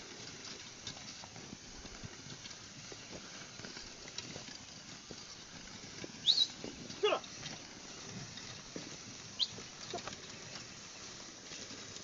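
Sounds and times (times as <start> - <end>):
faint hoof steps and knocks: 0.0 - 12.0.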